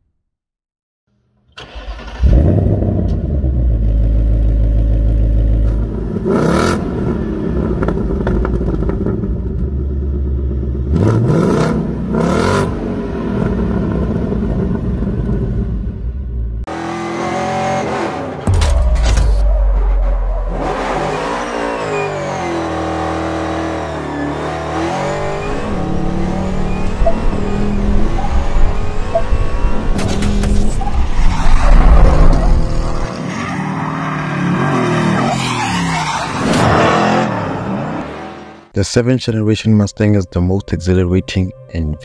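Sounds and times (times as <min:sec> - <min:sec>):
car engine revving: 0:01.6 - 0:18.6, 0:19.4 - 0:38.7.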